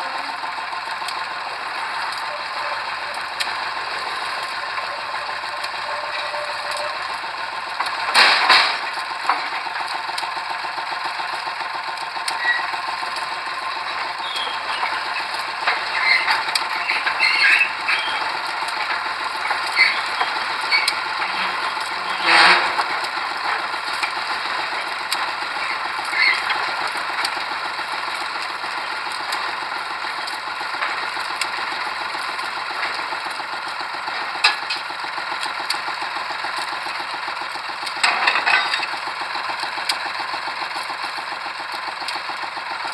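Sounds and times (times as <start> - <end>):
pile driver mechanical clatter: 0.0 - 42.9.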